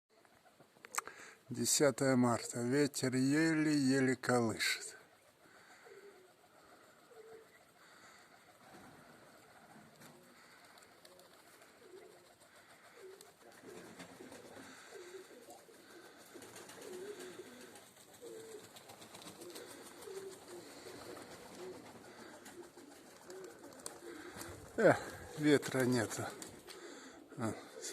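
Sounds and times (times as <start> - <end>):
pigeons cooing: 4.6 - 27.9.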